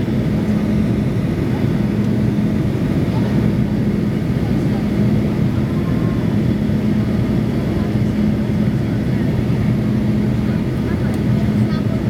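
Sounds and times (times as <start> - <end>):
airplane cabin drone: 0.0 - 12.0
constant low hum: 0.0 - 12.0.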